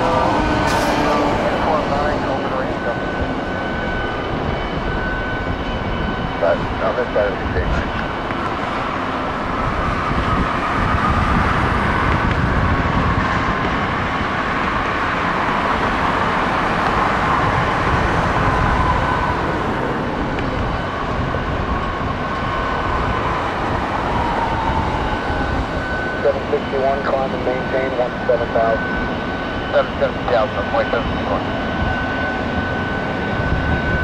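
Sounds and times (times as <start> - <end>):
jet engines rumbling and whining: 0.0 - 34.0.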